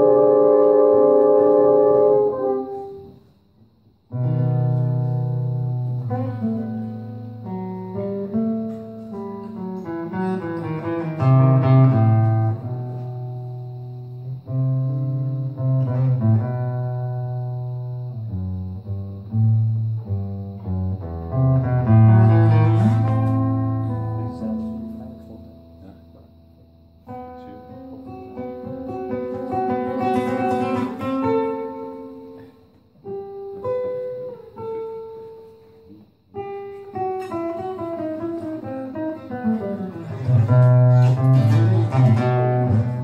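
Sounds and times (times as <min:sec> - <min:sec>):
classical guitar: 0:00.0 - 0:43.0.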